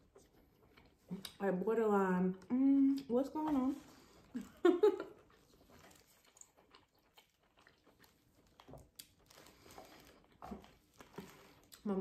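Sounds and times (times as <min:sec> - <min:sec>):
soft chewing: 0:00.0 - 0:01.7, 0:02.3 - 0:12.0.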